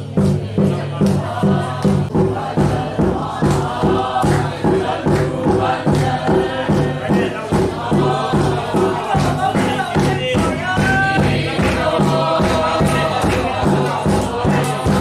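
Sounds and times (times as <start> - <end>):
congregation singing a hymn: 0.0 - 15.0
hand-clapping: 0.2 - 15.0.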